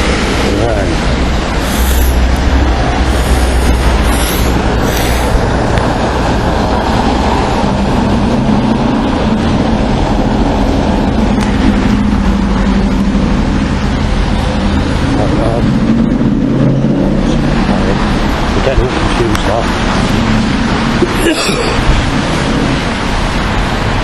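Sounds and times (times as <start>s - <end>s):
bus engine drone: 0.0s - 24.0s
bus road noise rumble: 0.0s - 24.0s.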